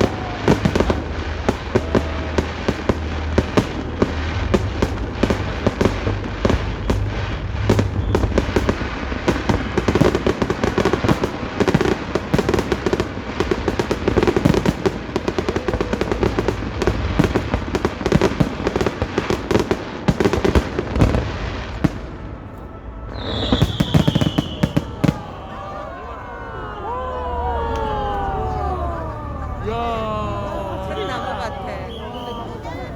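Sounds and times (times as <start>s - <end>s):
high firework whistle: 0.0s - 19.7s, 20.3s - 26.4s, 30.9s - 32.8s
fireworks bangs and crackles: 0.0s - 26.5s.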